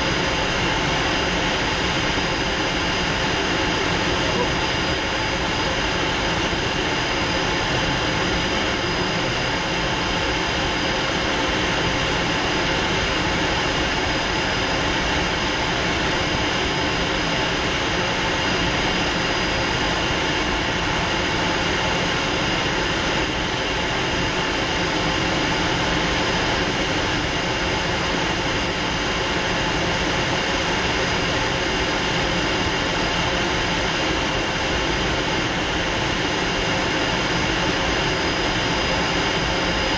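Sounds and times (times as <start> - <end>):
high jet whine: 0.0 - 39.9
jet engines and airflow rushing: 0.0 - 39.9.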